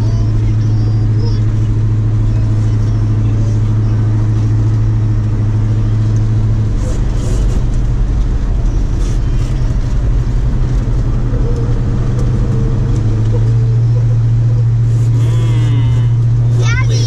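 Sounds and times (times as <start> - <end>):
car engine drone: 0.0 - 17.0
tyre and road noise: 0.0 - 17.0.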